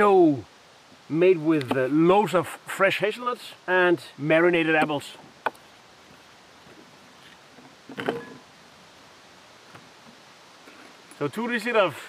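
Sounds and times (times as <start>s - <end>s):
quiet background hiss: 0.0s - 12.0s.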